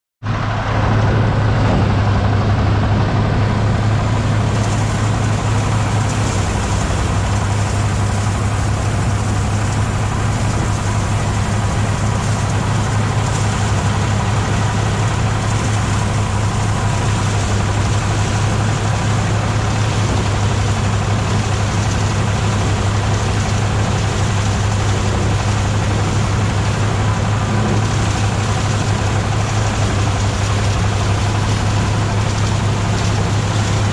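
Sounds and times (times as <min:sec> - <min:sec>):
engine drone: 0:00.2 - 0:33.9
threshing machine rushing noise: 0:00.3 - 0:33.9.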